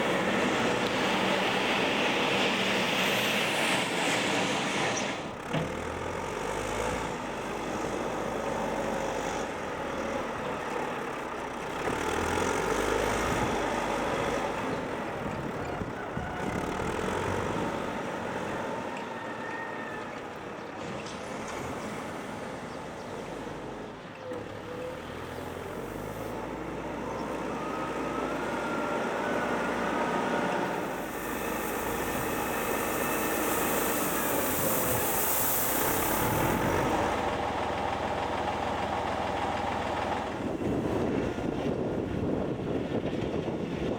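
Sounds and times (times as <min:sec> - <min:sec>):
backhoe diesel engine running: 0:00.0 - 0:43.9.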